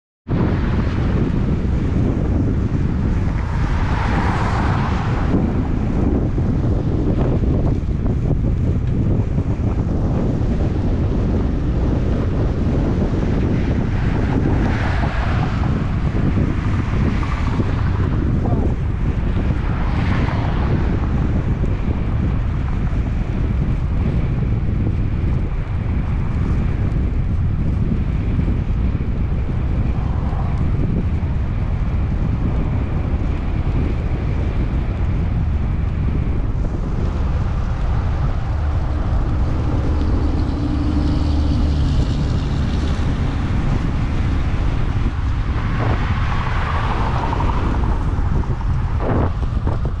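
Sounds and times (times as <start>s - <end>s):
cars passing: 0.3s - 50.0s
wind rushing on microphone: 0.3s - 50.0s.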